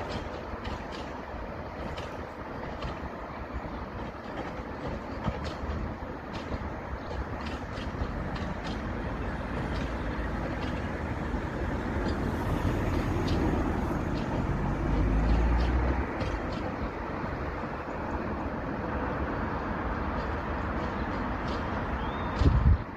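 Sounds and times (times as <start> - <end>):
sharp clicks of train wheels: 0.0 - 22.9
train wheels rumbling on rail: 0.0 - 22.9.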